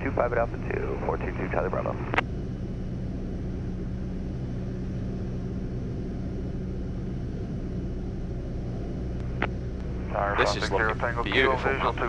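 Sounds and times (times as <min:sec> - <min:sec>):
aircraft engine droning in cockpit: 0:00.0 - 0:12.0.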